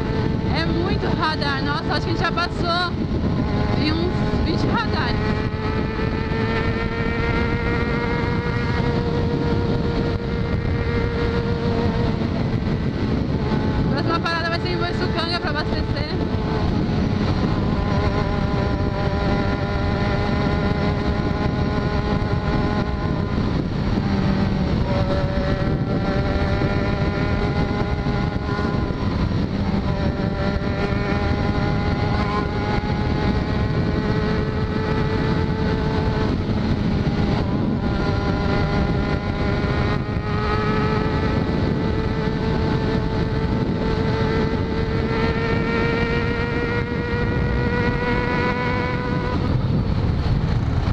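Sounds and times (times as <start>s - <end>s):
motorcycle engine cruising: 0.0s - 50.9s
wind rushing over microphone: 0.0s - 50.9s.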